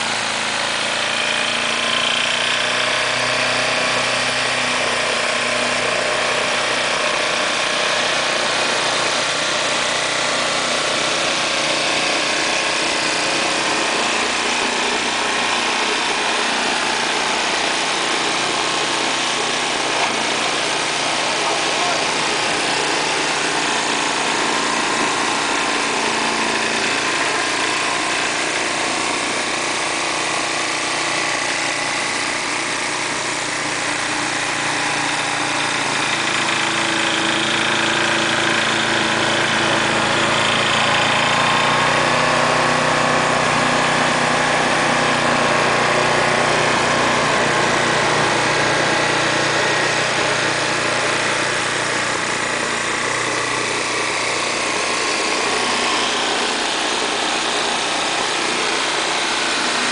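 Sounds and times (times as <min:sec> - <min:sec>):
snowblower engine running: 0:00.0 - 0:59.9.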